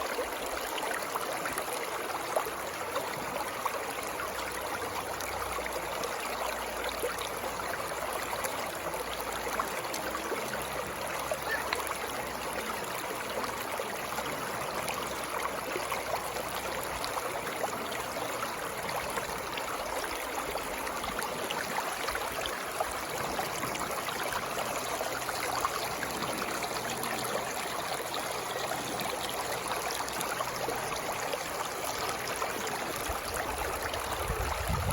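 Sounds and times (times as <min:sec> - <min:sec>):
water flowing and splashing: 0:06.2 - 0:34.9.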